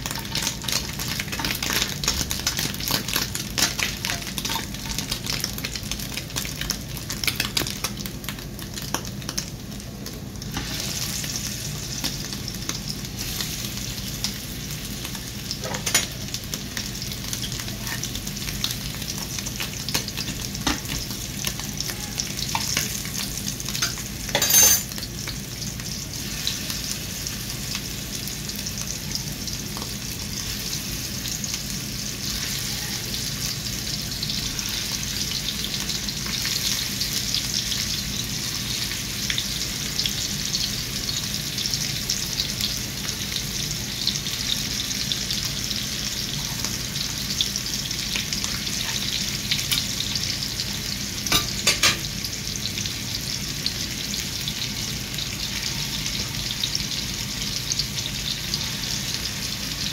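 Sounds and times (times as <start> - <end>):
oil sizzling in a frying pan: 0.0 - 59.9.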